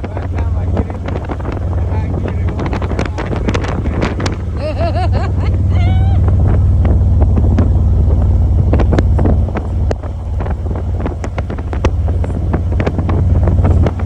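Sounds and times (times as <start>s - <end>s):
motorcycle running: 0.0s - 14.0s
wind noise on microphone: 0.0s - 14.0s.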